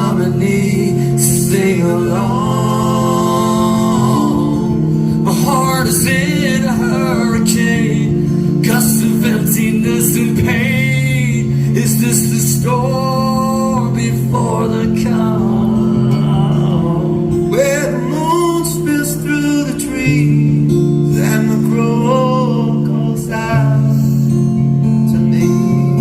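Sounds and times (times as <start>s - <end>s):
man singing: 0.0s - 24.0s, 25.0s - 26.0s
guitar chords: 0.0s - 26.0s.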